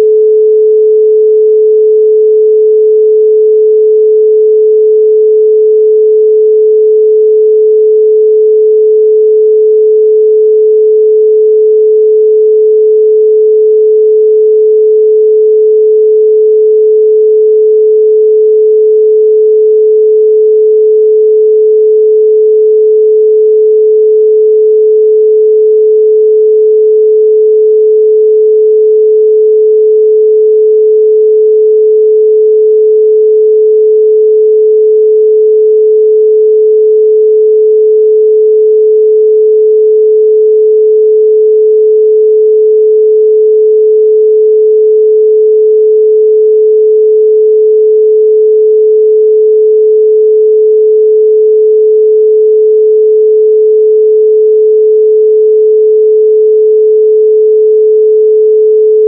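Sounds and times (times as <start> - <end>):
pure sine tone: 0.0 - 59.0.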